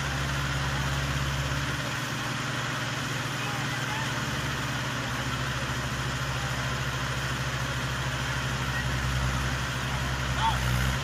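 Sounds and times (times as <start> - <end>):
diesel tractor engines idling: 0.0 - 11.0.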